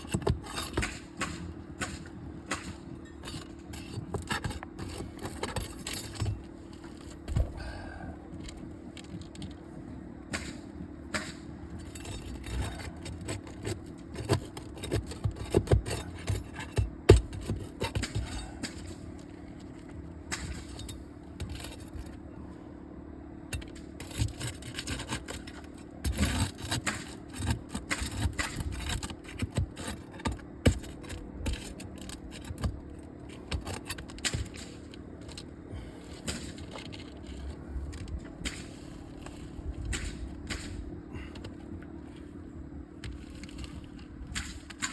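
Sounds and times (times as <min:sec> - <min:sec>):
tool scraping roof shingles: 0:00.0 - 0:07.7, 0:10.3 - 0:22.2, 0:23.5 - 0:44.9
steady low hum: 0:00.0 - 0:44.9.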